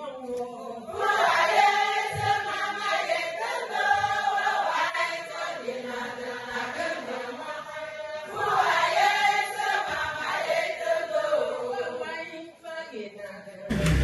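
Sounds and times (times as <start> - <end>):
group of voices singing: 0.0 - 14.0.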